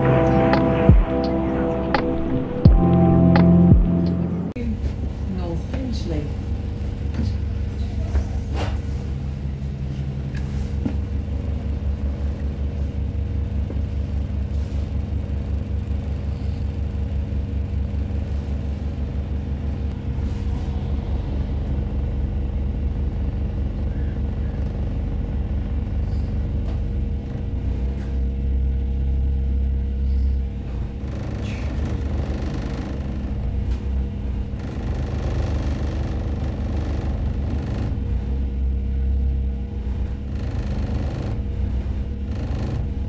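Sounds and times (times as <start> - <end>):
bus engine rumble: 0.0 - 43.0.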